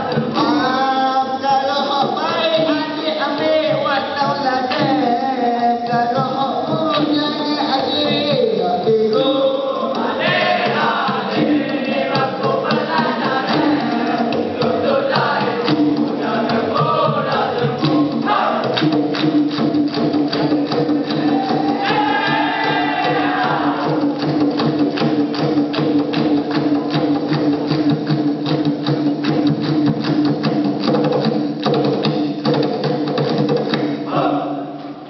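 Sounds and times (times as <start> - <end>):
fast percussion beat: 0.0 - 34.5.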